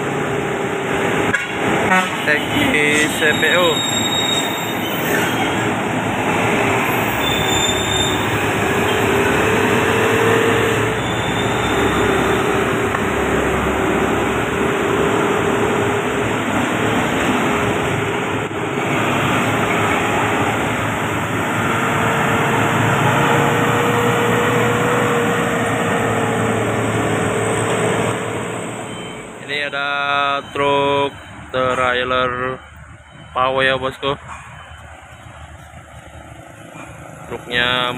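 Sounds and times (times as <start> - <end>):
truck diesel engine under load: 0.0 - 37.9.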